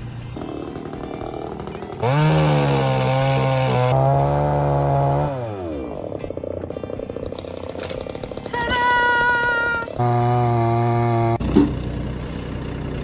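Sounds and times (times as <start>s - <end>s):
engine revving: 0.0s - 9.0s, 9.7s - 13.0s.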